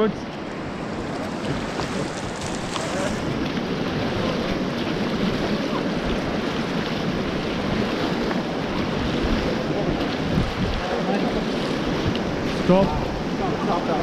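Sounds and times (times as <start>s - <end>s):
river water rushing: 0.0s - 14.0s
wind buffeting microphone: 0.0s - 14.0s.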